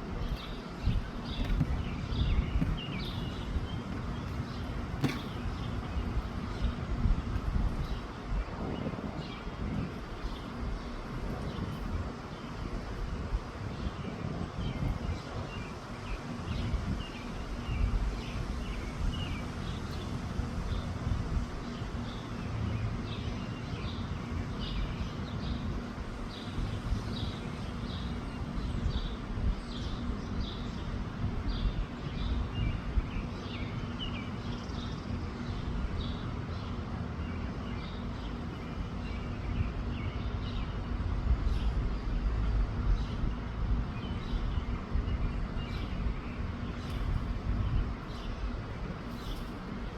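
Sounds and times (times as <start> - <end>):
small birds chirping: 0.0 - 49.9
wind buffeting microphone: 0.0 - 49.9.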